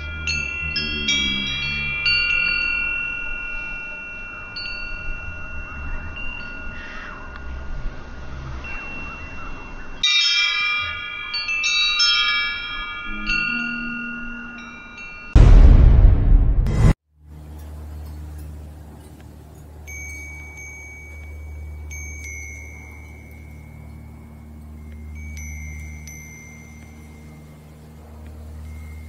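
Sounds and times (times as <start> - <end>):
metal tube wind chimes ringing: 0.0 - 15.4, 17.3 - 29.0.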